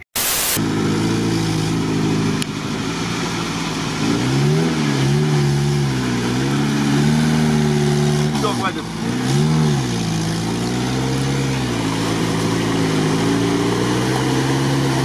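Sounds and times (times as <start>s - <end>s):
engine revving: 0.6s - 15.0s.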